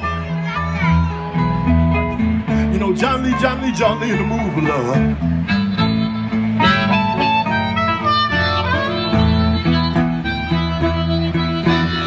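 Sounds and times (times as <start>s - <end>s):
blues harmonica playing: 0.0s - 12.0s
guitar accompaniment: 0.0s - 12.0s.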